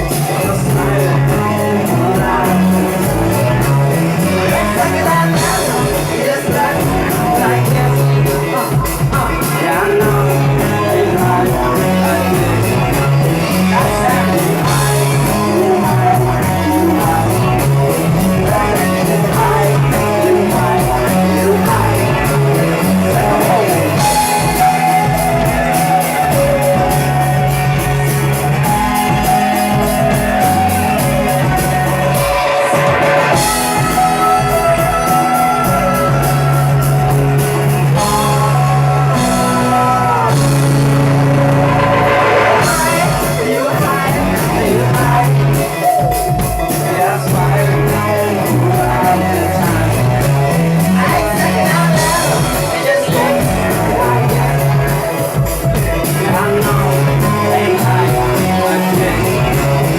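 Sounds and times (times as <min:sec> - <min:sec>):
bass line: 0:00.0 - 0:59.9
drums: 0:00.0 - 0:59.9
guitar: 0:00.0 - 0:59.9.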